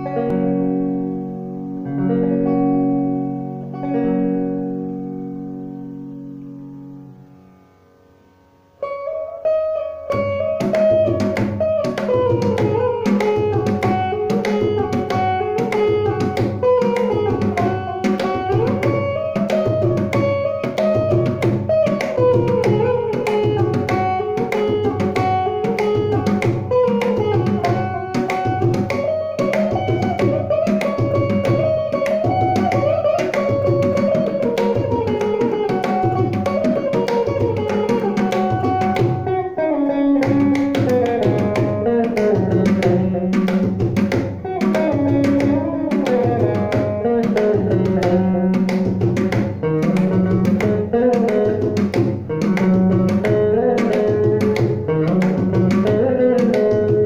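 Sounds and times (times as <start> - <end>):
electric guitar melody: 0.0 - 57.0
hand drum rhythm: 10.0 - 57.0.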